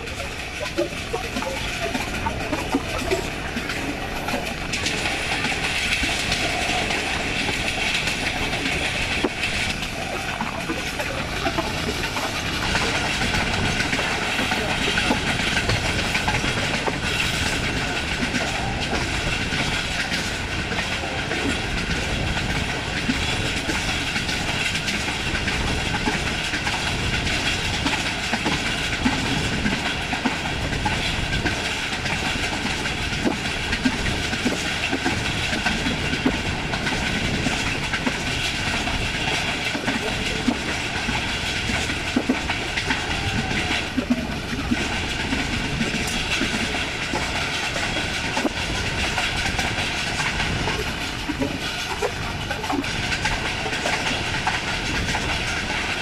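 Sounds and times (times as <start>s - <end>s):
train running noise: 0.0s - 56.0s
wheels clicking over rail joints: 0.0s - 56.0s.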